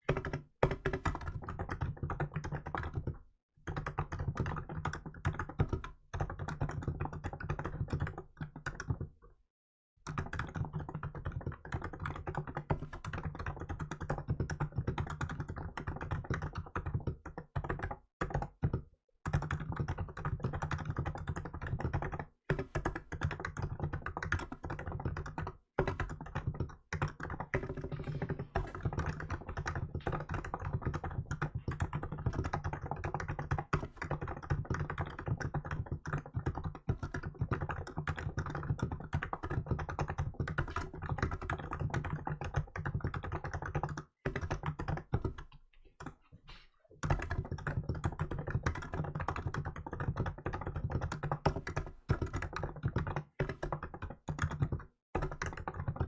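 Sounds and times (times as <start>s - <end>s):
fast keyboard typing: 0.1s - 9.1s, 10.1s - 56.0s.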